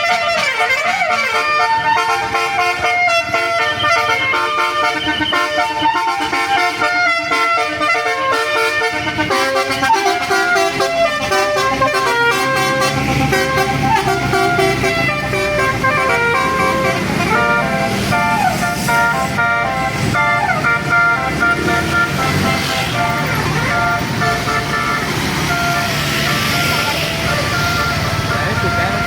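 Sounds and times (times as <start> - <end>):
bus engine running: 0.0 - 29.0
multi-tone bus horn melody: 0.0 - 29.0.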